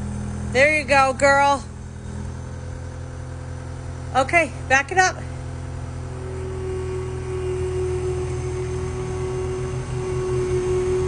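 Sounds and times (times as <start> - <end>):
machine engine running: 0.0 - 11.0
steady whine: 0.0 - 11.0.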